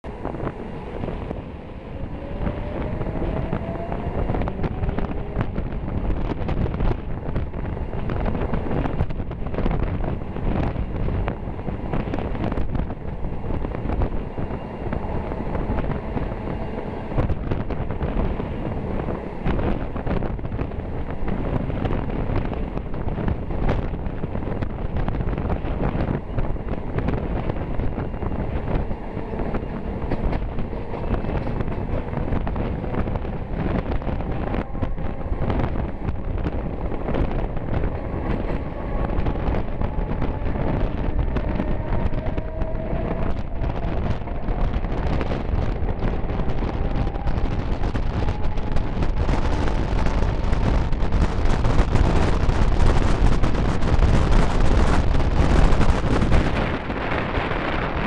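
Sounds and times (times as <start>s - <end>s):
train running rumble: 0.0s - 58.0s
wind buffeting microphone: 0.0s - 58.0s.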